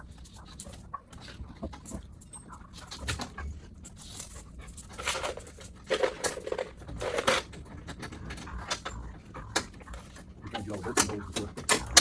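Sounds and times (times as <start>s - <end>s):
rapid breathy panting: 0.0s - 12.0s.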